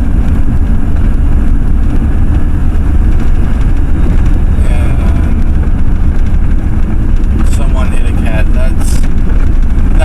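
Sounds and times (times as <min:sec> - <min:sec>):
pickup truck engine rumble: 0:00.0 - 0:10.0
road noise: 0:00.0 - 0:10.0.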